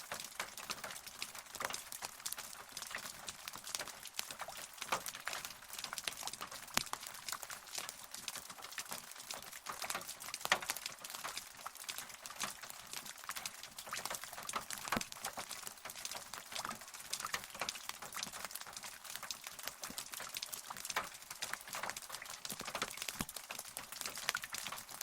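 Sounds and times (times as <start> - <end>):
rain drops pattering: 0.0 - 25.0.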